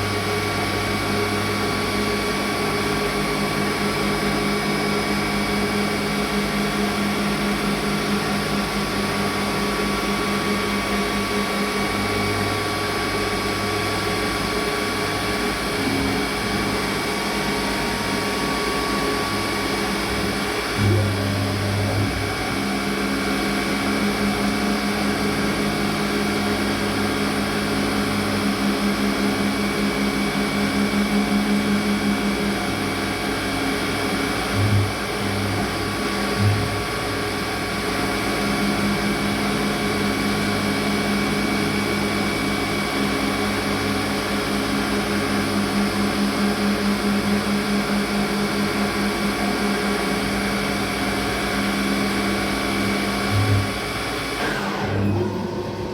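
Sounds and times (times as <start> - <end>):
milling machine hum: 0.0 - 55.9
steady machine tones: 4.1 - 55.9.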